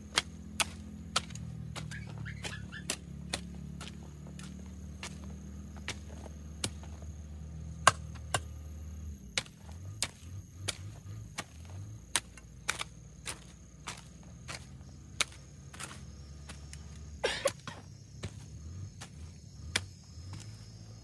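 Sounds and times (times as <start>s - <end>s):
hand tool chopping into soil: 0.0s - 8.6s, 9.3s - 20.8s
low steady hum: 0.0s - 21.0s.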